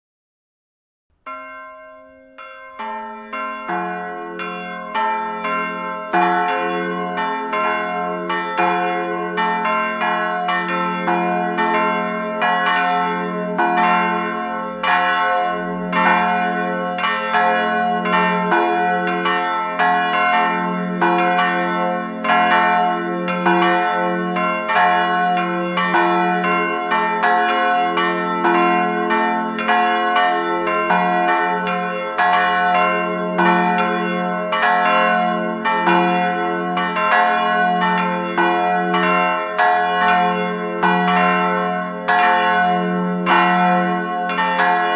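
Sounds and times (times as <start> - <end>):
church bells ringing: 1.3 - 44.9.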